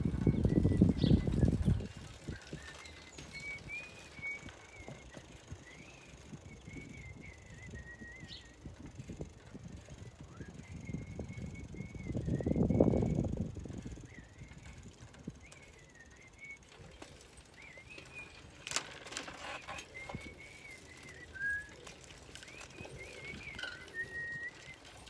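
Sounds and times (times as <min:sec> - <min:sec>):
faint high whistling tune: 0:02.3 - 0:18.5, 0:19.5 - 0:25.0.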